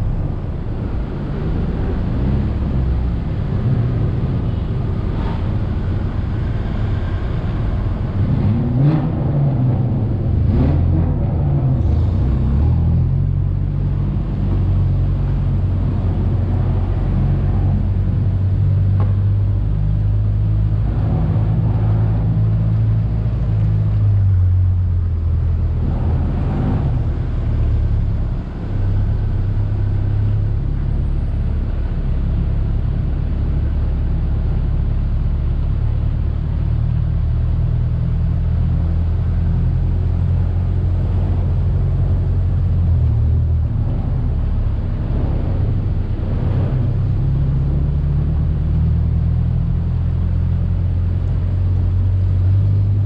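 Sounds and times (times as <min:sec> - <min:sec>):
engine droning: 0:00.0 - 0:53.0
road noise: 0:00.0 - 0:53.0.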